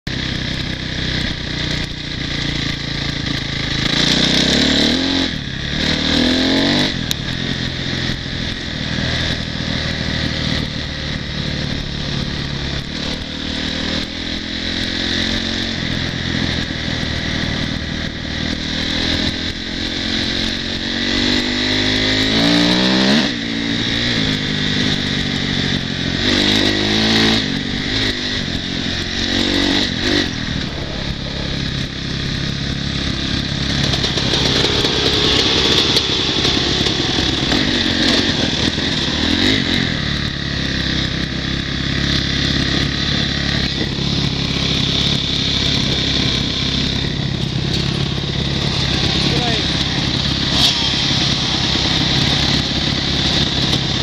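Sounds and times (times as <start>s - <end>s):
motorcycle engine revving: 0.1s - 54.0s.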